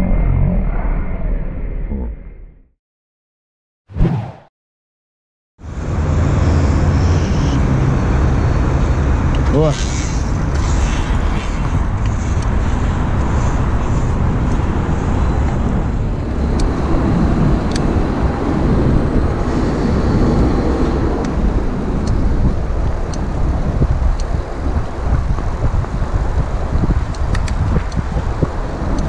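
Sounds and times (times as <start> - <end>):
street traffic: 5.6 - 29.0
wind rumble on microphone: 5.6 - 29.0.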